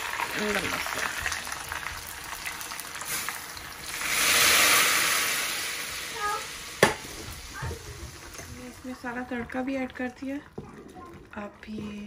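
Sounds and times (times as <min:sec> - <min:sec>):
hot oil sizzling: 0:00.0 - 0:10.6.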